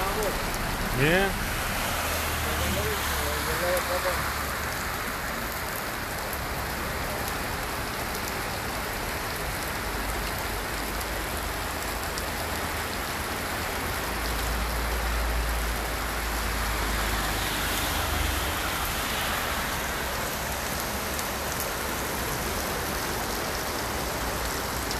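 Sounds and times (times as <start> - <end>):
heavy rain on hard surfaces: 0.0 - 24.9.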